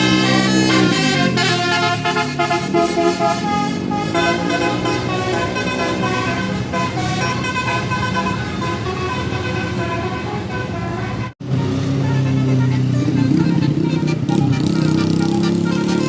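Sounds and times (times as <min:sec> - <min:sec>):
bus engine and road noise: 0:00.0 - 0:16.0
multi-note bus air horn melody: 0:00.0 - 0:16.0.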